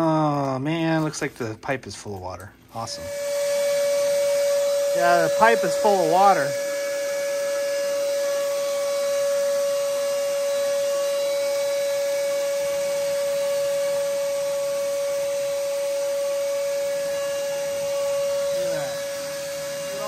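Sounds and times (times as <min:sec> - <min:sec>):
vacuum whining: 0:02.8 - 0:20.0.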